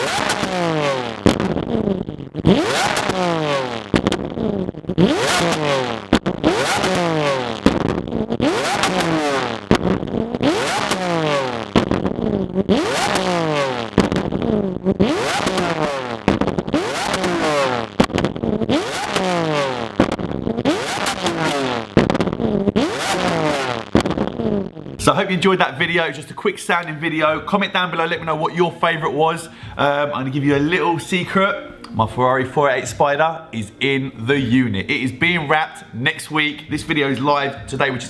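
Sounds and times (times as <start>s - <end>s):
car engine revving: 0.0s - 38.0s
exhaust crackling and popping: 0.0s - 38.0s.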